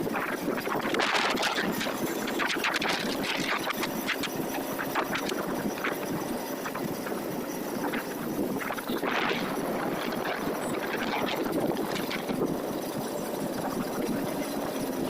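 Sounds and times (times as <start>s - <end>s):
moving vehicle rushing: 0.0s - 15.0s.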